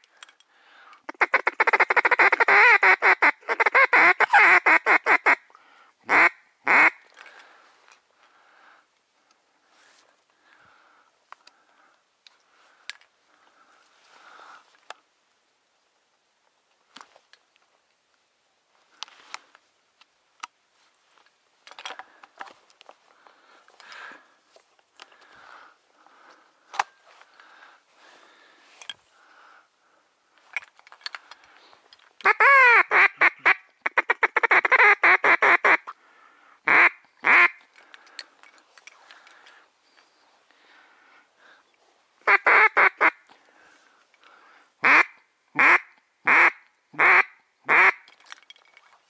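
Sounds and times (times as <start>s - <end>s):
rustling of clothing and reeds: 0.0s - 46.8s, 47.6s - 49.0s.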